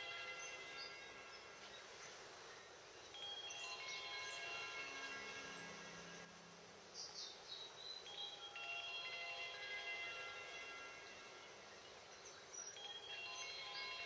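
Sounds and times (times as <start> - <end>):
soft chime tones: 0.0 - 1.9, 2.6 - 6.4, 8.0 - 14.0
faint high bird chirps: 0.0 - 6.3, 6.9 - 9.4, 10.7 - 14.0.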